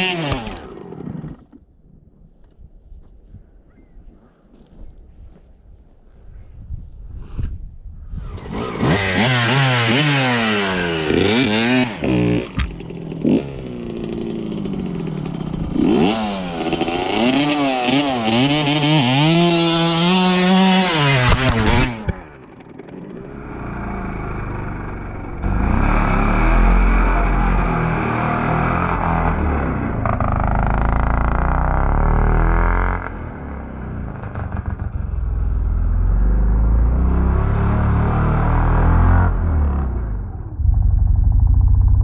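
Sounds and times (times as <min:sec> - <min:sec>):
dirt bike engine revving: 0:00.0 - 0:01.4, 0:08.2 - 0:42.0.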